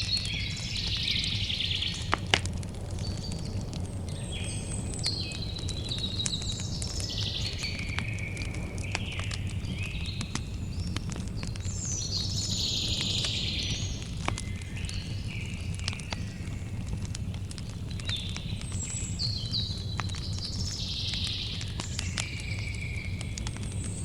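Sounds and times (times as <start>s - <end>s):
campfire crackling: 0.0s - 24.0s
songbirds chirping: 0.0s - 24.0s.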